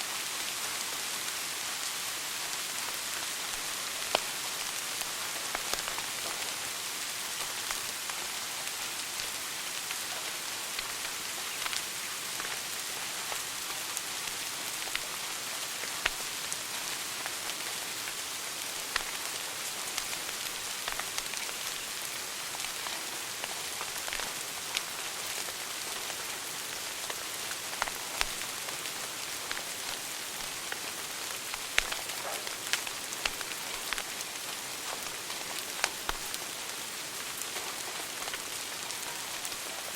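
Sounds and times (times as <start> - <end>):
wood fire crackling: 2.8 - 39.9.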